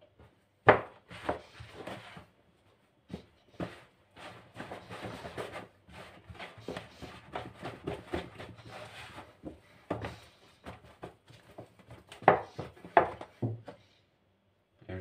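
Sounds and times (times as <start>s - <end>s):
hands kneading dough: 0.0s - 13.8s.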